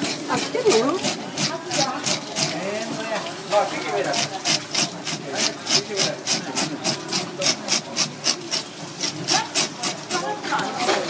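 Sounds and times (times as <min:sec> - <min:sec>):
fish scaler scraping scales: 0:00.0 - 0:11.0.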